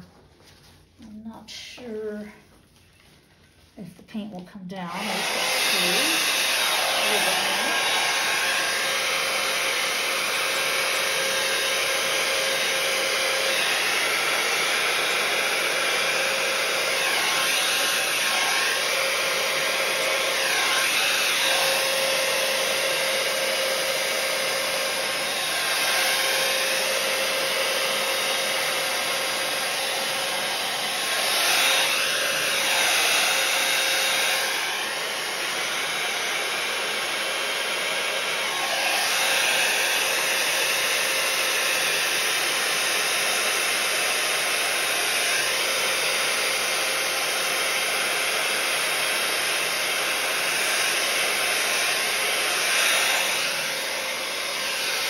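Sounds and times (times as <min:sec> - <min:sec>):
hair dryer blowing: 0:04.0 - 0:55.0.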